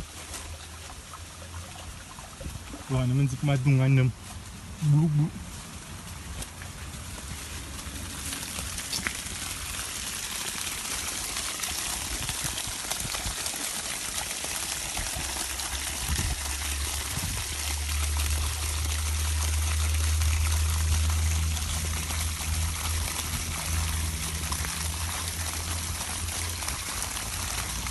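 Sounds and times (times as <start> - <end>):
water trickling and flowing: 0.0 - 27.9.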